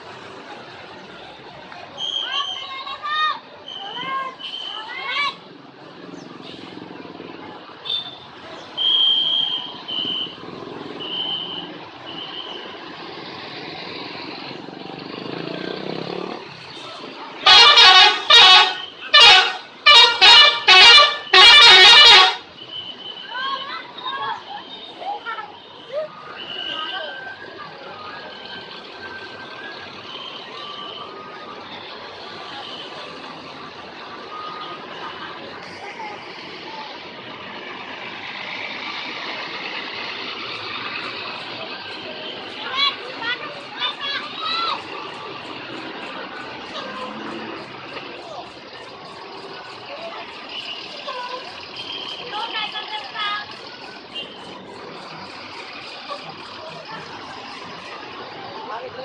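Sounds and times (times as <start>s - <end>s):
bus engine running: 0.0s - 2.0s, 4.2s - 23.1s, 27.3s - 59.0s
road traffic passing: 0.0s - 59.0s.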